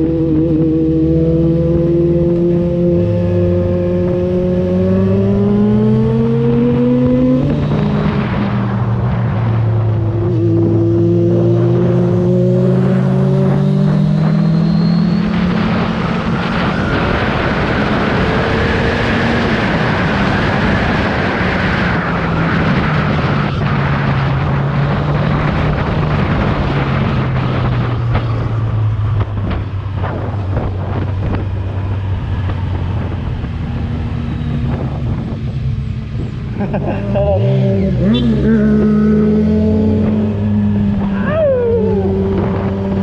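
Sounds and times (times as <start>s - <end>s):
motorcycle engine revving: 0.0s - 43.0s
wind rush: 0.0s - 43.0s.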